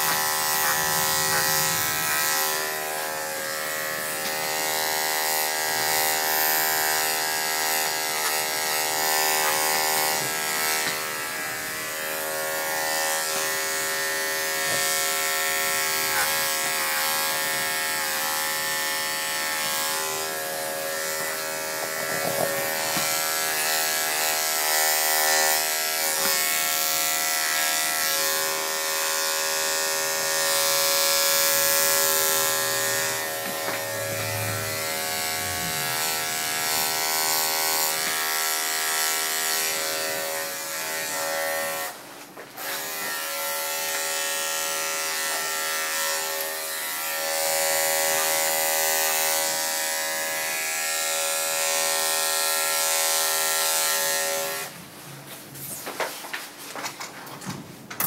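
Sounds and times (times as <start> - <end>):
electric clippers motor hum: 0.0 - 42.0, 42.6 - 54.8.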